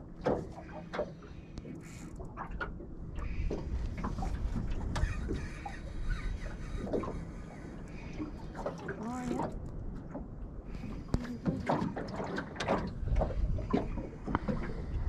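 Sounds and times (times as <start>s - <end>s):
wind buffeting microphone: 2.5s - 15.0s.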